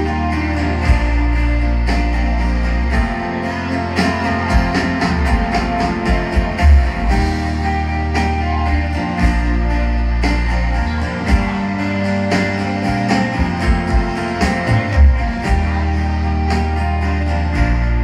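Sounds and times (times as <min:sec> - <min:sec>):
electric bass notes: 0:00.0 - 0:18.0
strummed acoustic guitar: 0:00.0 - 0:18.0.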